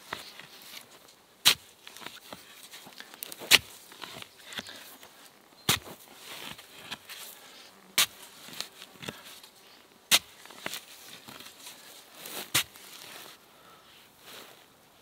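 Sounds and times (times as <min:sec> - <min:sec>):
digging stick crunching into soil: 0:00.0 - 0:07.4, 0:08.0 - 0:09.5, 0:10.1 - 0:13.4
gritty scrapes of sand: 0:00.0 - 0:13.4.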